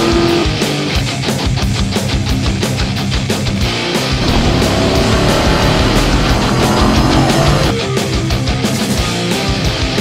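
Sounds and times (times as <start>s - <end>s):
heavy rock music: 0.0s - 10.0s.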